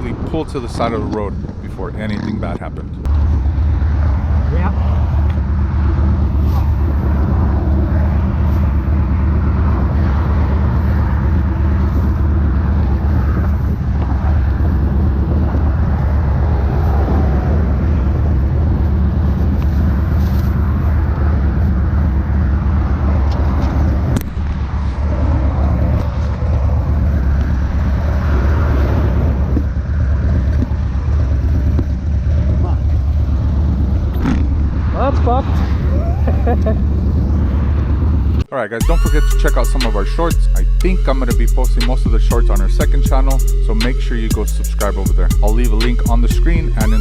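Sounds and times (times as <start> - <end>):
motorcycle engine droning: 0.0 - 47.0.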